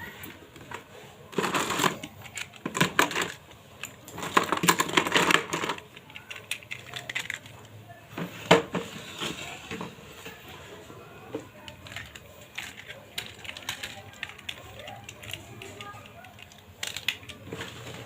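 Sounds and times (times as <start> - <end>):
toy cars clattering: 0.2 - 10.4, 11.3 - 18.0.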